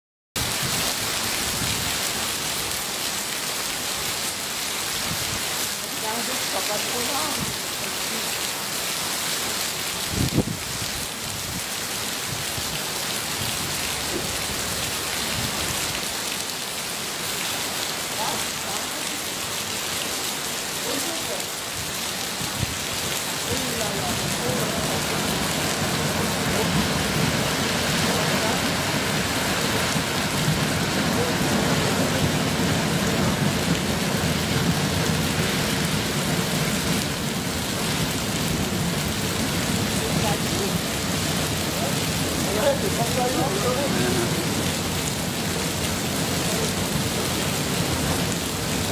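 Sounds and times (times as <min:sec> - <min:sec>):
water rushing over dam: 0:00.4 - 0:48.9.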